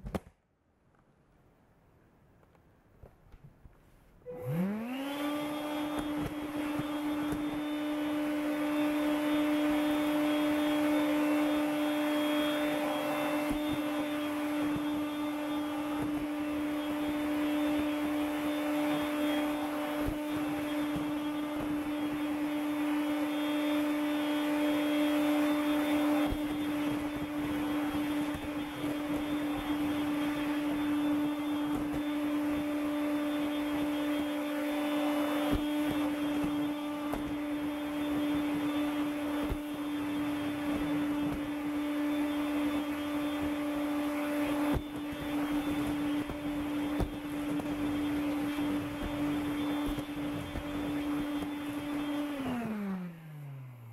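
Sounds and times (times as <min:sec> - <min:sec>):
vacuum cleaner running: 0:04.2 - 0:53.9.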